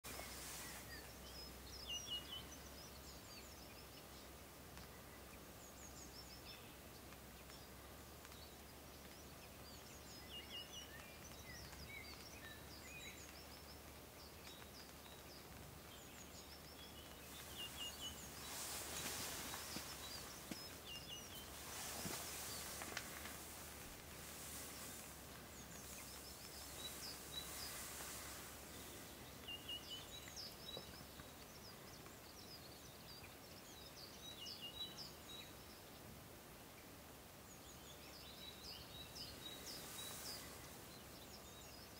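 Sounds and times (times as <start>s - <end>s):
small songbirds chirping: 0.0s - 41.9s.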